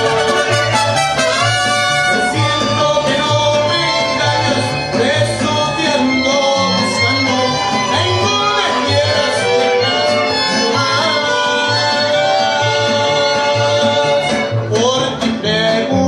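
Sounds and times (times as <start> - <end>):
mariachi band playing: 0.0 - 16.0.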